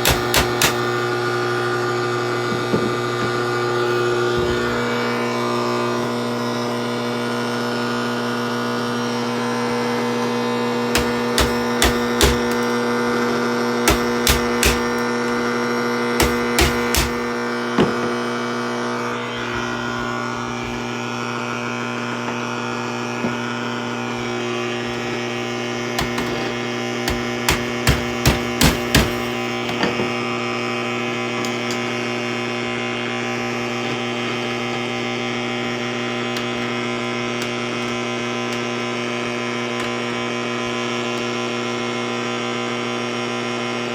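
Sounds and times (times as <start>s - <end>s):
electrical hum and buzz: 0.0s - 43.9s.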